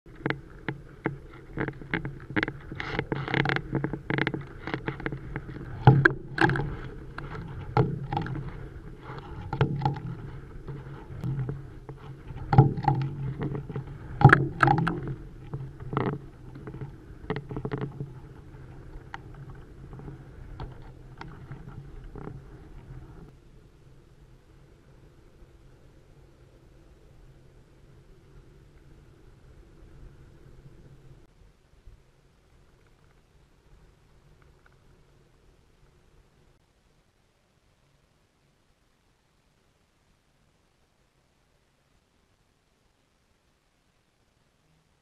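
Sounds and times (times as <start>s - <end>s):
steady low hum: 0.1s - 45.0s.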